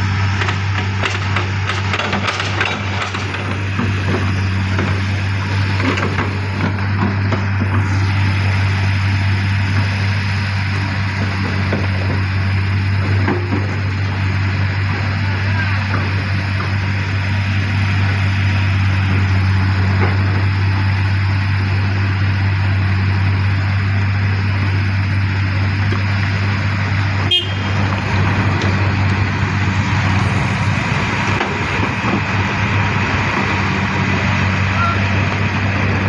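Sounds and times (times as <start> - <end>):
large diesel engine humming: 0.0 - 36.0.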